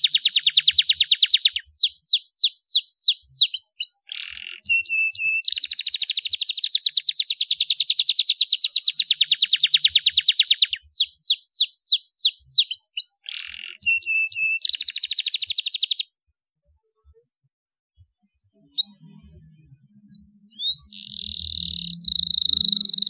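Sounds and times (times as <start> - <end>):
canary singing trills: 0.0 - 16.1, 18.7 - 23.0.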